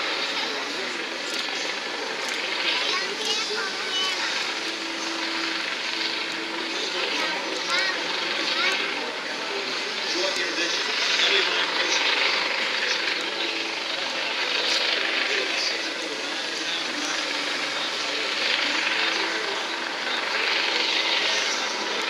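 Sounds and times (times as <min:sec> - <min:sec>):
helicopter flying low: 0:00.0 - 0:22.0.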